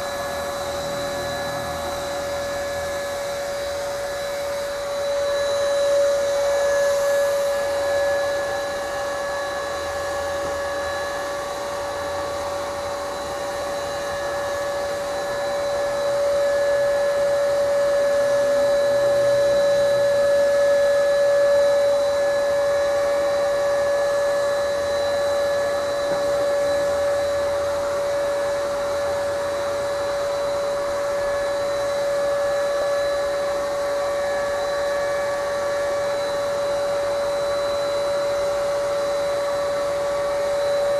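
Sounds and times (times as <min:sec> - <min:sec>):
paint sprayer motor whining: 0:00.0 - 0:40.9.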